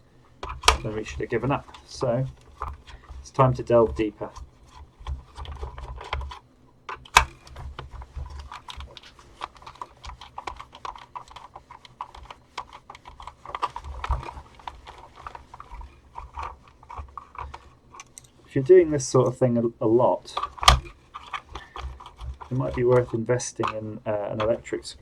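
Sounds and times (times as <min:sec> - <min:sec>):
screwdriver clicking and scraping: 0:00.0 - 0:25.0.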